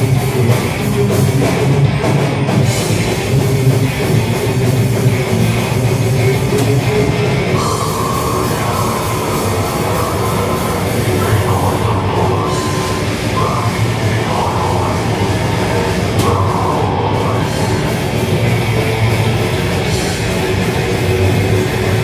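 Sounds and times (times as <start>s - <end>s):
thrash metal band playing live: 0.0s - 22.0s.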